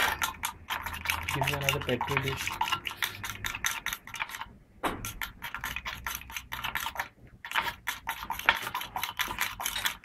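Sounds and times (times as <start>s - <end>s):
metal spoon scraping beaker: 0.0s - 10.0s.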